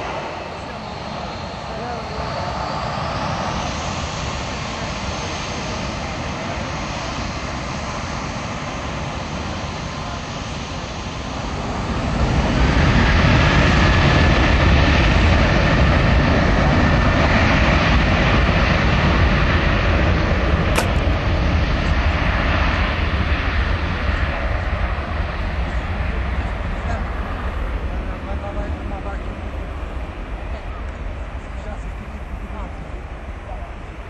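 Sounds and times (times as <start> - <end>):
faint engine whine: 0.0 - 34.0
jet engines rumbling: 0.0 - 34.0.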